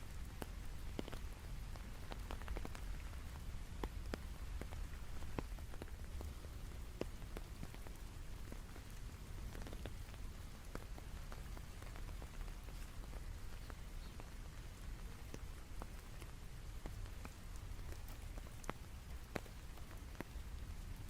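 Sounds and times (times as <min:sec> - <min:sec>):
raindrops tapping: 0:00.0 - 0:21.0.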